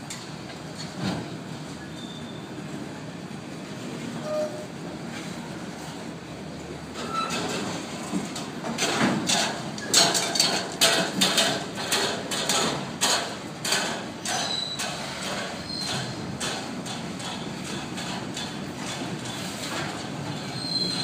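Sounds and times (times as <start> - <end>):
train wheels clanking over track: 0.0 - 2.6, 6.7 - 21.0.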